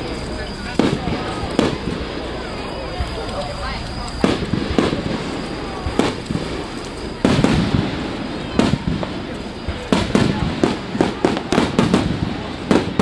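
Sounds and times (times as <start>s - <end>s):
firework booms echoing: 0.6s - 3.2s, 4.1s - 13.0s.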